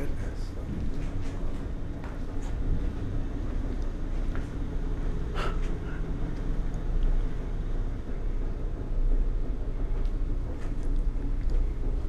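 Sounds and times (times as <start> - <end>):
engine room machinery humming: 0.0 - 12.0.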